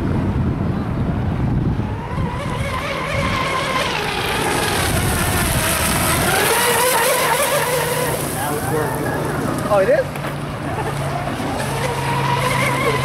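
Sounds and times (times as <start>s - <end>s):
rc boat motor whining: 1.5s - 13.0s.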